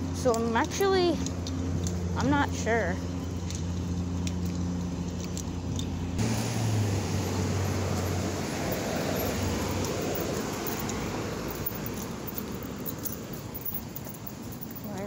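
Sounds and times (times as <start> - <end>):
traffic engine hum: 0.0 - 15.0
vehicle passing by: 1.1 - 15.0.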